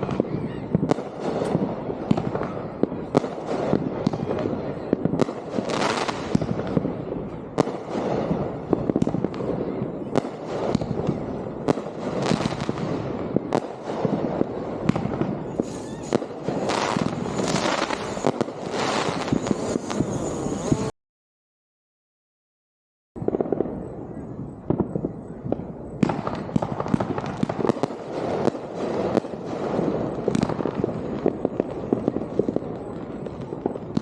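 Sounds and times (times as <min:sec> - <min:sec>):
fireworks bangs: 0:00.0 - 0:20.9, 0:23.2 - 0:34.0
fireworks crackling: 0:00.0 - 0:21.0, 0:23.2 - 0:34.0.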